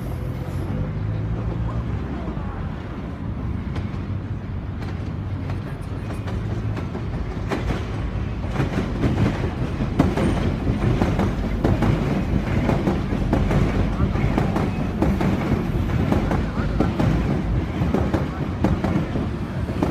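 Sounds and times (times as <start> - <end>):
train rumble: 0.0 - 19.9
wheels clacking over rail joints: 3.6 - 19.9.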